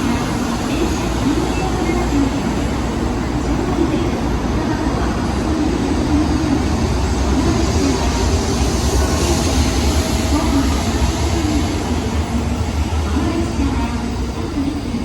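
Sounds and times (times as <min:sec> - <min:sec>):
bullet train rumbling past: 0:00.0 - 0:15.0.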